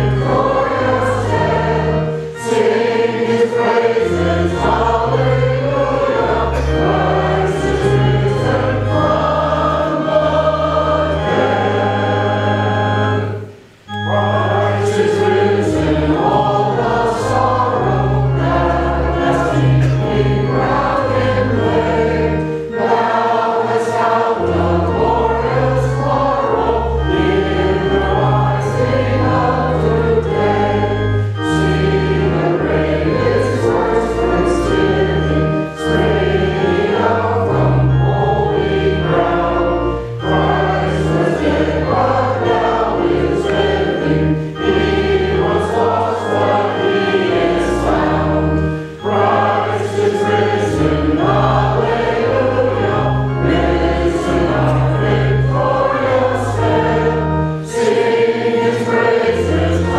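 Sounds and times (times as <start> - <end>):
group singing a hymn: 0.0 - 59.9
sustained low accompanying notes: 0.0 - 59.9.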